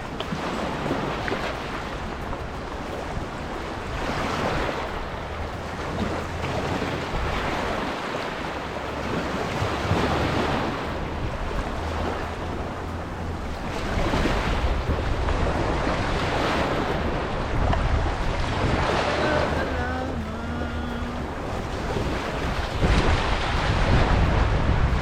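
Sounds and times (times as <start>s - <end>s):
small waves washing: 0.0s - 25.0s
wind rumbling on microphone: 0.0s - 25.0s.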